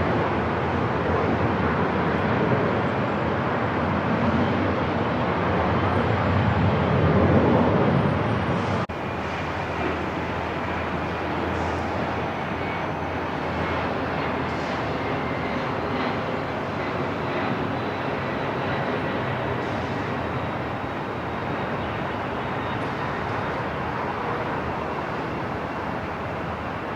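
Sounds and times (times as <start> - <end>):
distant jet engine rumble: 0.0 - 26.9.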